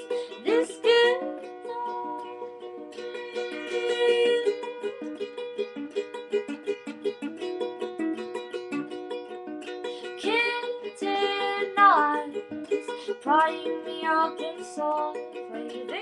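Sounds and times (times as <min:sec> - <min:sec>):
plucked string instrument: 0:00.0 - 0:16.0.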